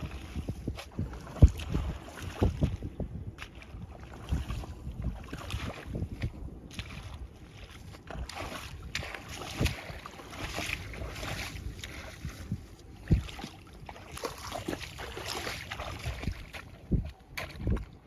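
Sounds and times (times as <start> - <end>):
water splashing and sloshing: 0.0 - 18.0
wind buffeting microphone: 0.0 - 18.0.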